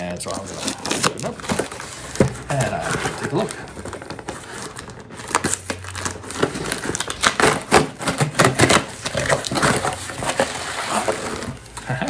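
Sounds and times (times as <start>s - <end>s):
cardboard box being opened: 0.2s - 12.0s.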